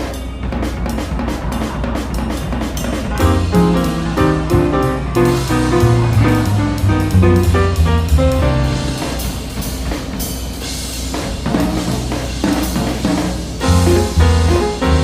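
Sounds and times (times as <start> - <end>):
jazzy drum and piano music: 0.0 - 15.0.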